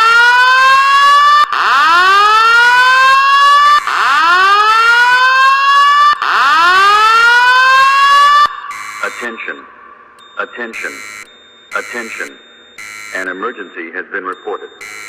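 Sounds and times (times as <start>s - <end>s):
fire alarm whoop tone: 0.0s - 15.0s.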